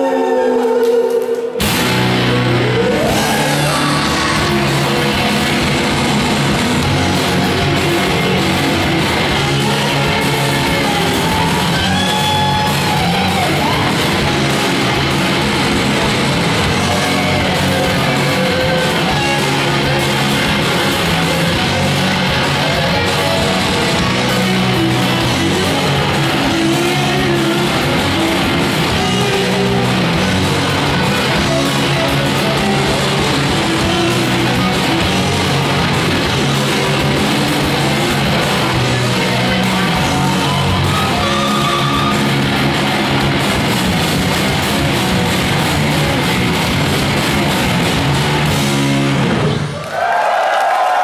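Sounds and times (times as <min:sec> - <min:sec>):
electric guitars: 0:00.0 - 0:49.9
drum kit: 0:01.1 - 0:49.8.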